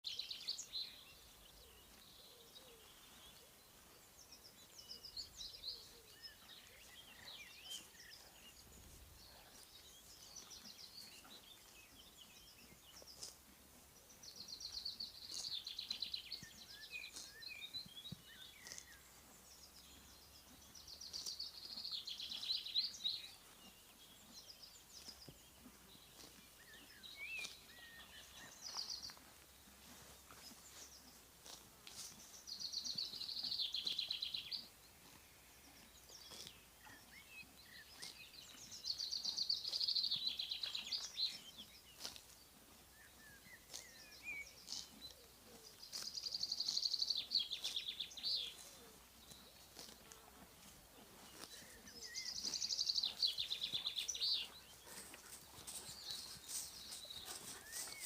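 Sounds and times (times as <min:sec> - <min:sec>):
songbirds chirping and whistling: 0:00.0 - 0:58.0.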